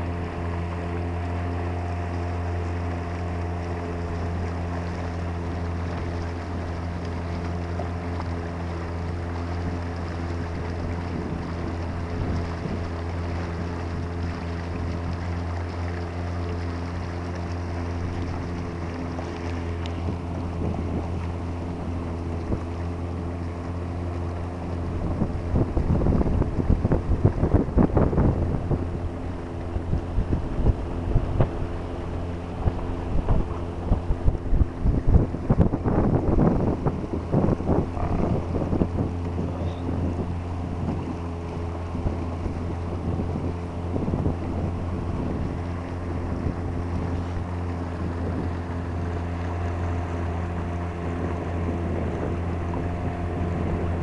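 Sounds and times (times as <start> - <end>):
boat motor running: 0.0 - 54.0
wind buffeting microphone: 0.0 - 54.0.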